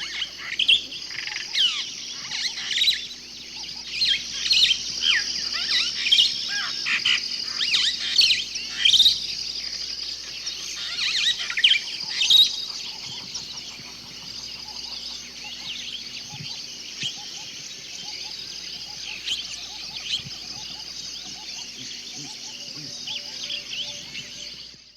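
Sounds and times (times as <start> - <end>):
crickets trilling: 0.0 - 24.9
quick sharp cricket chirps: 0.0 - 24.9.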